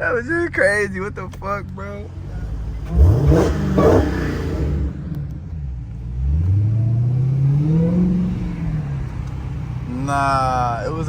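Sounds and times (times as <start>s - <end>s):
car engine revving: 0.9s - 11.0s.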